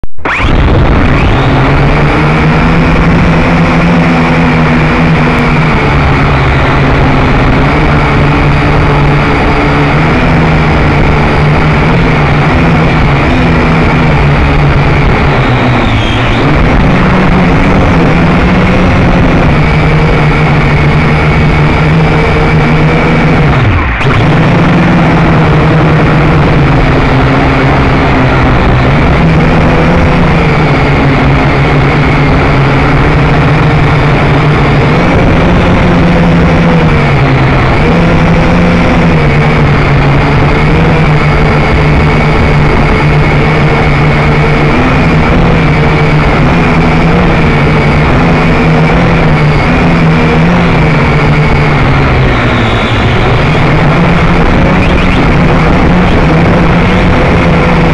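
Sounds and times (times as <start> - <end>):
drone motors buzzing: 0.0 - 57.9.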